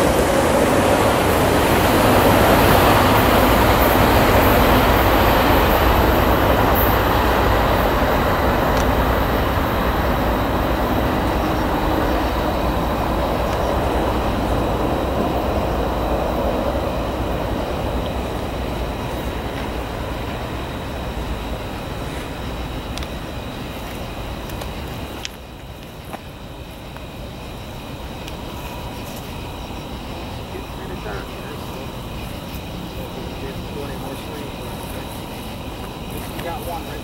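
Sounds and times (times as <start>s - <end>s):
train wheels rolling on track: 0.0s - 37.0s.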